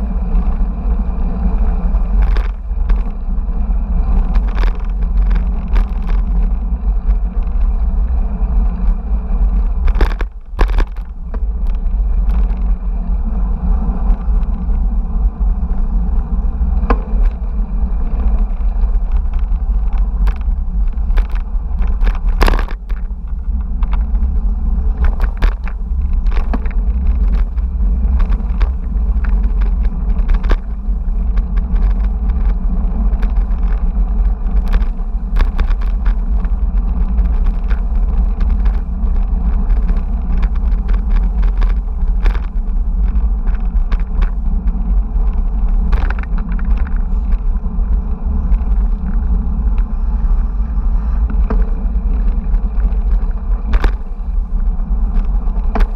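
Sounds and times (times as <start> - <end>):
bicycle rattles and knocks: 0.0 - 55.9
wind and road rumble: 0.0 - 55.9.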